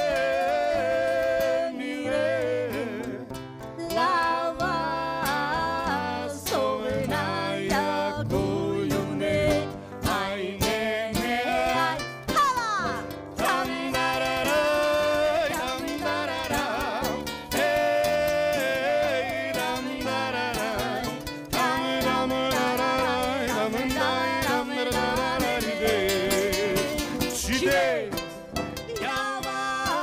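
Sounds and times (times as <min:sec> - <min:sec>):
person singing: 0:00.0 - 0:28.2, 0:28.8 - 0:30.0
plucked strings: 0:00.0 - 0:30.0.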